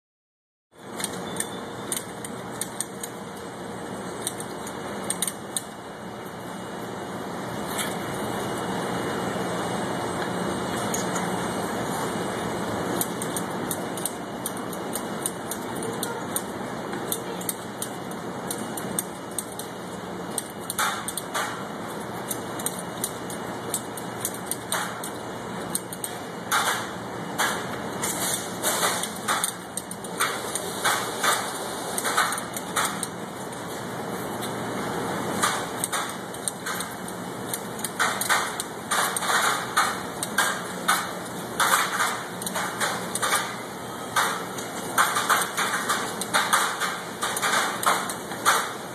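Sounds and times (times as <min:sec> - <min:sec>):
conveyor humming: 0:00.8 - 0:48.9.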